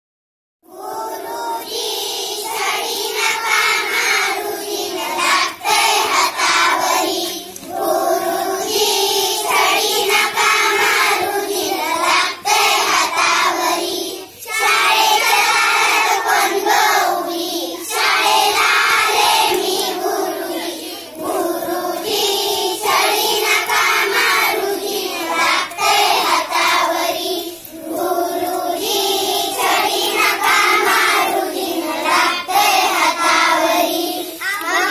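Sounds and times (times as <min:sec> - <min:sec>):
children singing in unison: 0:00.7 - 0:34.9.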